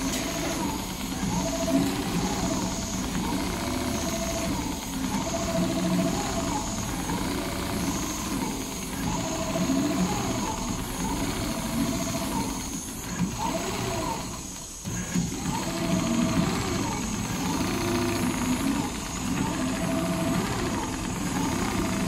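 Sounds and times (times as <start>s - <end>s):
machine whine: 0.0s - 22.0s
sewing head whirring: 0.0s - 22.0s
sewing machine running: 0.0s - 22.0s.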